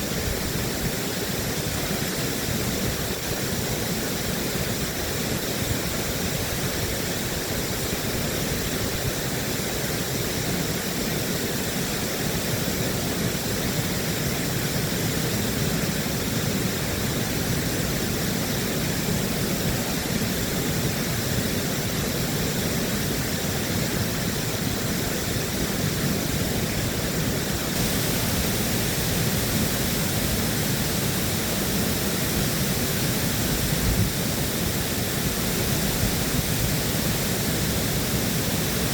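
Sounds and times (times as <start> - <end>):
water rushing through dam: 0.0 - 38.9.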